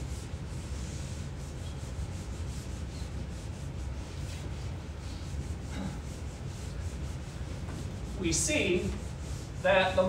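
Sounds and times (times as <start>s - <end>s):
eraser rubbing on whiteboard: 0.0s - 10.0s.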